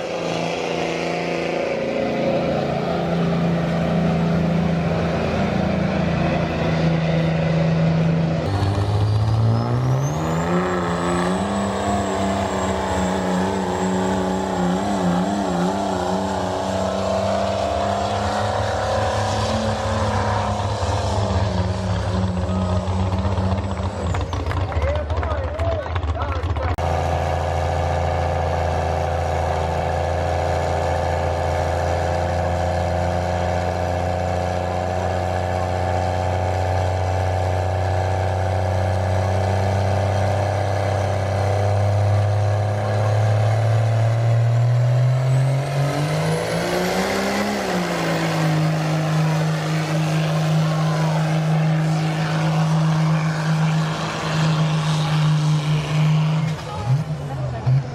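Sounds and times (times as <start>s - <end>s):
diesel truck engine under load: 0.0s - 57.9s.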